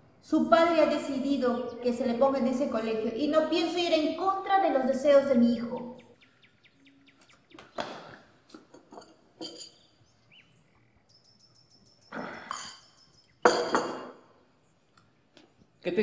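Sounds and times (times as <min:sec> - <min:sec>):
faint bird chirping: 0:00.1 - 0:16.0.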